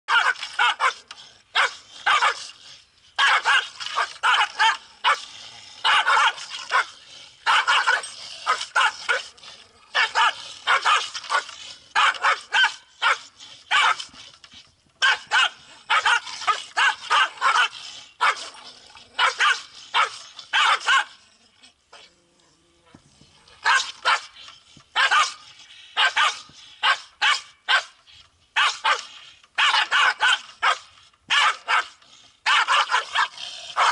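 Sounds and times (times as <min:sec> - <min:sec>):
dogs barking and yapping: 0:00.1 - 0:22.1, 0:22.8 - 0:33.9.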